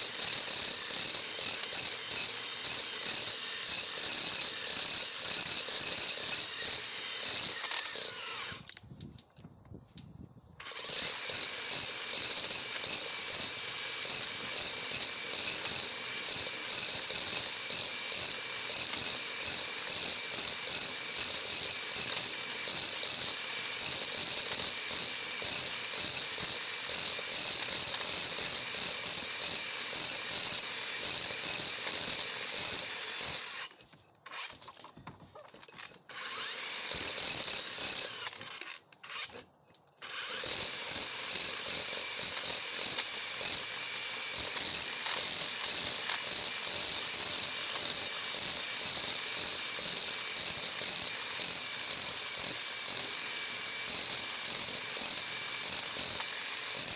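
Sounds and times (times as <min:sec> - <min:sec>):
drill whining through brick: 0:00.0 - 0:09.5, 0:10.3 - 0:56.9.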